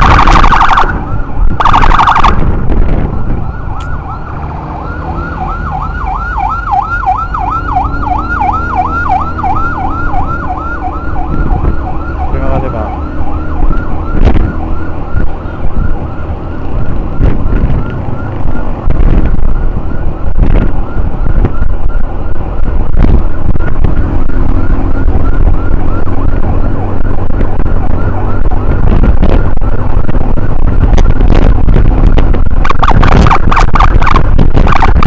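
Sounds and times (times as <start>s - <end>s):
emergency siren yelping: 0.0s - 35.0s
wind and road rumble: 0.0s - 35.0s.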